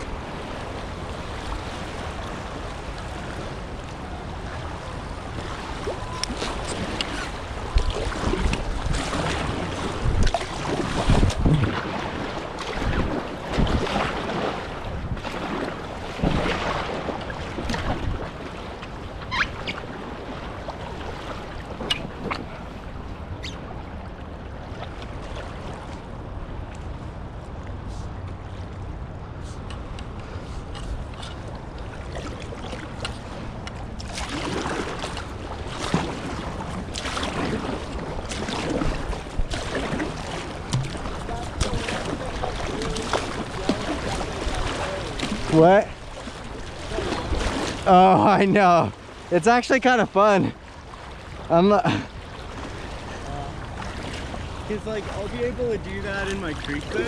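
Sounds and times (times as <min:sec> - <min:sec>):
wind buffeting microphone: 0:00.0 - 0:47.9
water splashing around kayak: 0:00.0 - 0:57.0.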